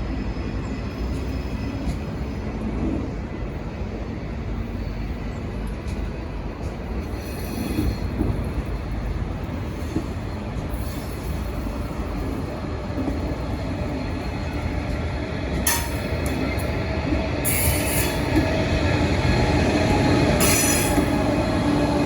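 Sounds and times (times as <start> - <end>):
high-speed train rumbling past: 0.0 - 22.0.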